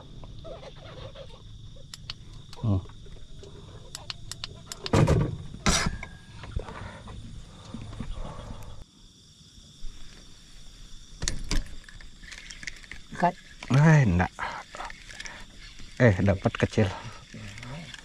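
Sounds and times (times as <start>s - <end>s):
night insects droning: 0.0s - 18.0s.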